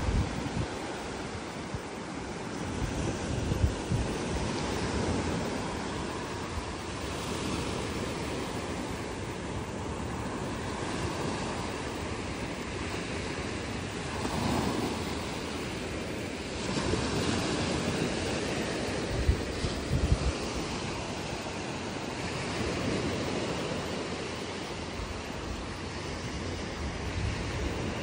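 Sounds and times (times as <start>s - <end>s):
small waves washing up sand: 0.0s - 28.0s
wind rumbling on microphone: 0.0s - 28.0s.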